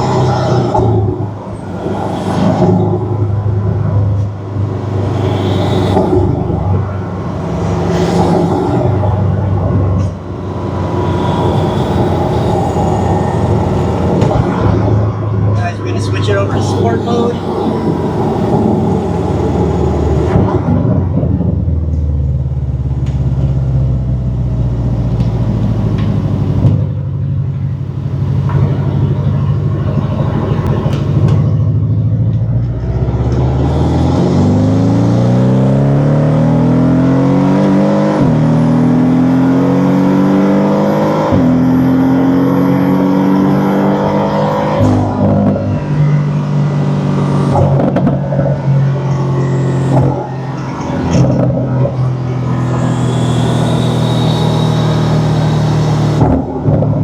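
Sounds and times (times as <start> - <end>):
car engine accelerating: 0.0 - 57.0
car engine cruising: 0.0 - 57.0.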